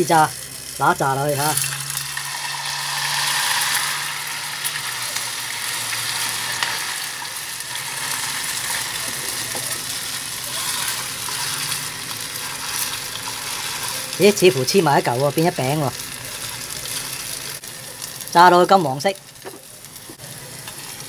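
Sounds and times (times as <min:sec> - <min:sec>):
noodles deep-frying in oil: 0:00.0 - 0:21.0.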